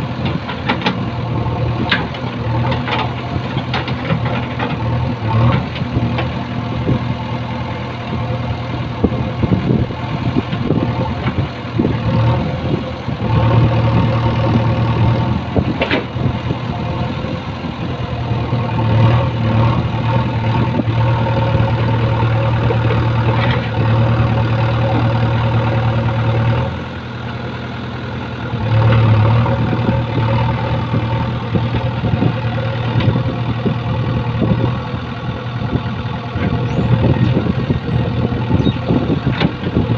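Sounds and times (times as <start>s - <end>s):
diesel engine running: 0.0s - 39.9s
hydraulics working under load: 0.0s - 39.9s.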